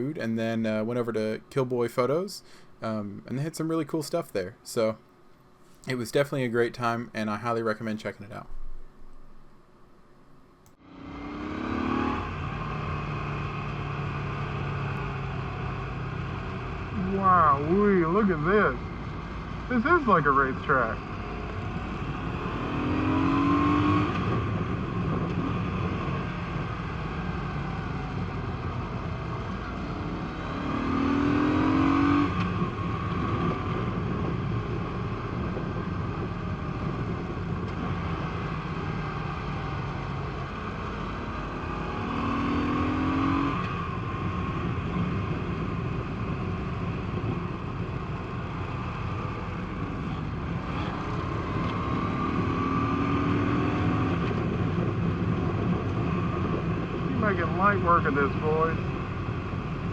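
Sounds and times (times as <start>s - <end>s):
wind and road noise: 0.0s - 59.9s
motorcycle engine accelerating: 10.7s - 59.9s.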